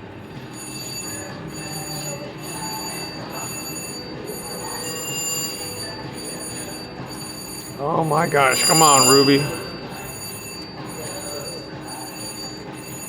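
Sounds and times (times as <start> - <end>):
casino background din: 0.5 - 13.0
slot machine tones and jingles: 0.5 - 13.0.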